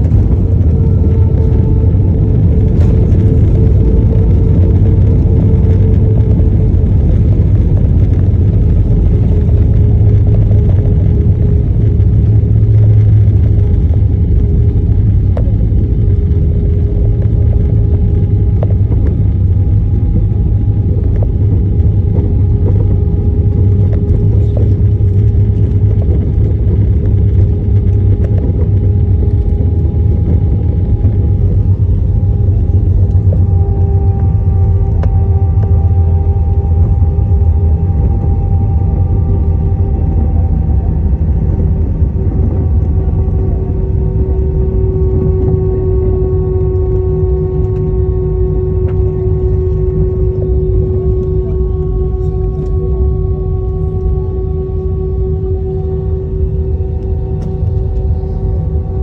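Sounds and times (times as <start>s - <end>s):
airliner cabin rumble: 0.0s - 59.0s
faint engine hum: 0.0s - 59.0s.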